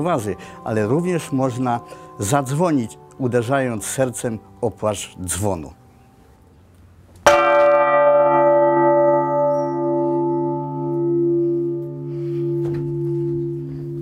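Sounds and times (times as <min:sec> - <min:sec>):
church bell ringing: 0:00.0 - 0:06.0, 0:07.2 - 0:14.0
deep bell hum: 0:00.0 - 0:06.1, 0:07.3 - 0:14.0.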